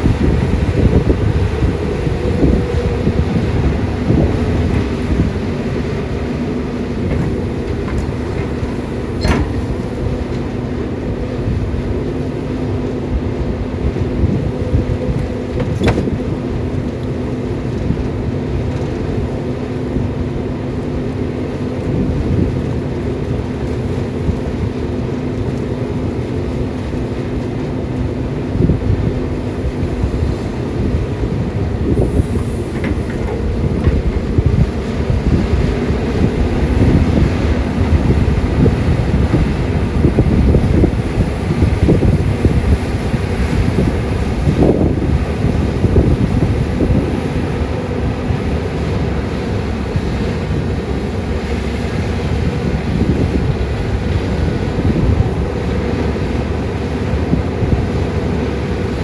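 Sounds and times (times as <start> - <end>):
excavator diesel engine drone: 0.0 - 59.0.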